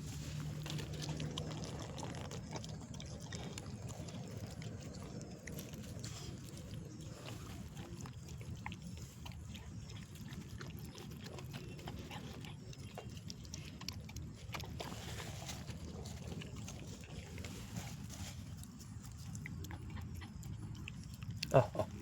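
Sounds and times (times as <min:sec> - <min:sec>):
dog chewing: 0:00.0 - 0:22.0.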